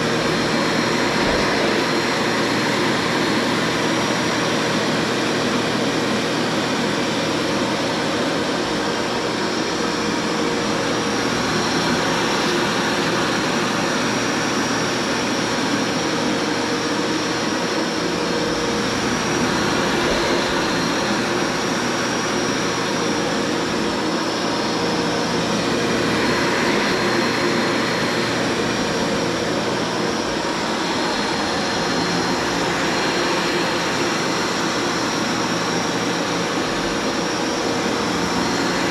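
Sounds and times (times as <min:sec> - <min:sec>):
carpet cleaner motor whining: 0:00.0 - 0:38.9.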